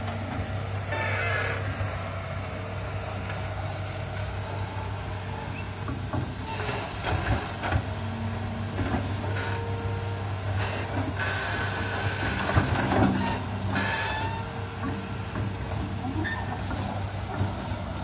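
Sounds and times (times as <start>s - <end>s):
excavator diesel engine running: 0.0s - 18.0s
faint hydraulic whine: 0.0s - 18.0s.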